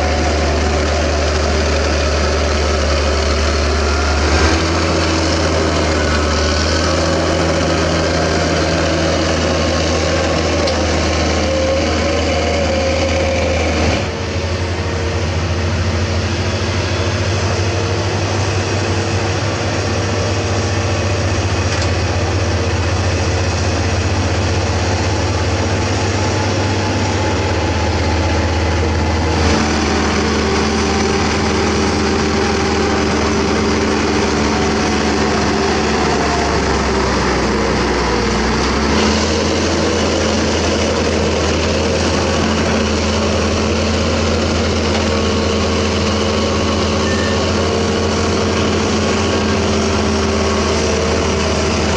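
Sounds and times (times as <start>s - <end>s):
bulldozer engine running: 0.0s - 51.9s
diesel excavator engines running: 0.0s - 51.9s.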